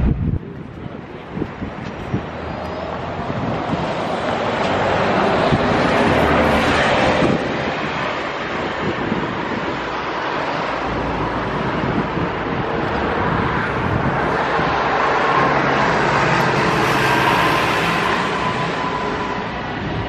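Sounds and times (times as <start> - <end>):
vehicle rumble and hiss: 0.2 - 20.0.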